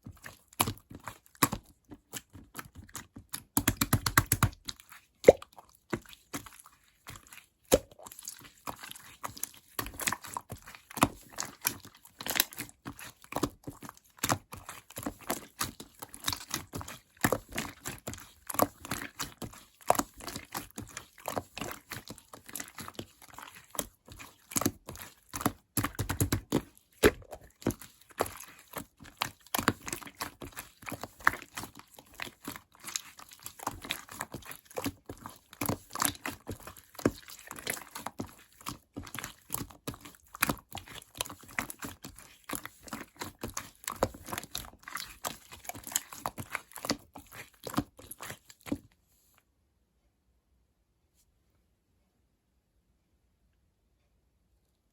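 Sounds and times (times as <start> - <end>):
slime squelching and clicking: 0.0 - 48.9.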